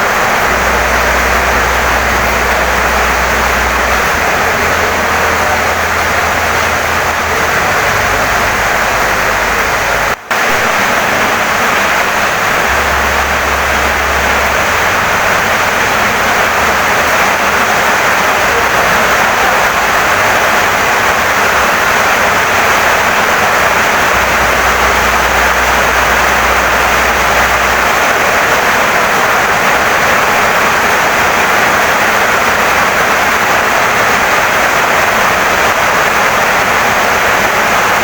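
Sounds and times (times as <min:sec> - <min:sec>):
heavy rain on wooden house: 0:00.0 - 0:38.0.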